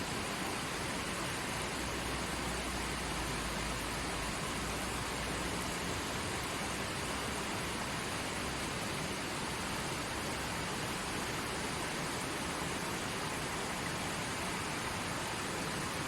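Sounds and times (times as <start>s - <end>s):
forest stream flowing: 0.0s - 16.0s.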